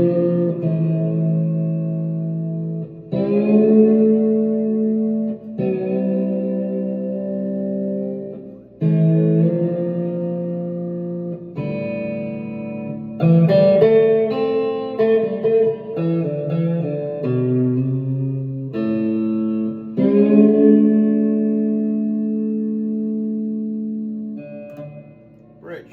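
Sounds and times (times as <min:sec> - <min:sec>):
electric guitar chords: 0:00.0 - 0:25.9
picked guitar notes: 0:00.0 - 0:25.9.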